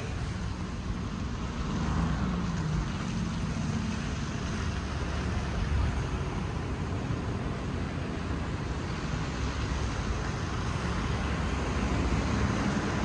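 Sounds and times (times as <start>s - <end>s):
bus engine drone: 0.0s - 13.0s
wind: 0.0s - 13.0s.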